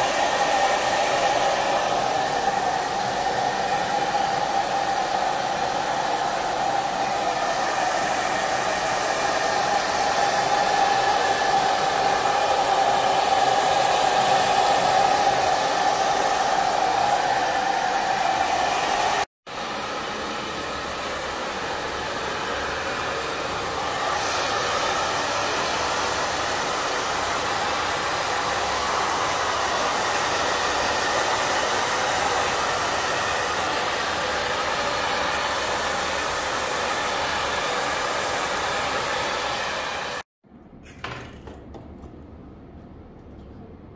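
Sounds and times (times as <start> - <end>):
blow dryer rushing air: 0.0 - 40.3.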